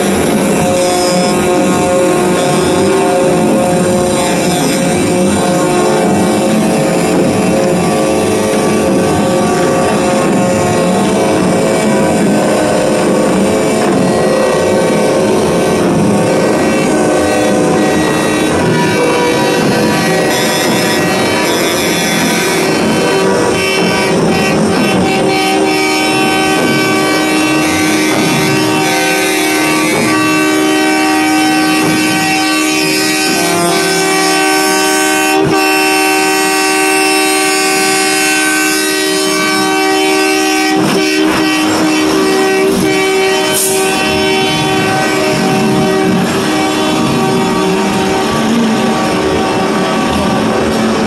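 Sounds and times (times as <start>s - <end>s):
truck air horns blaring: 0.0s - 51.0s.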